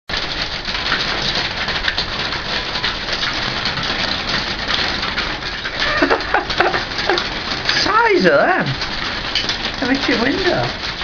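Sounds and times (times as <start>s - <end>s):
hail clattering on hard surfaces: 0.1s - 11.0s.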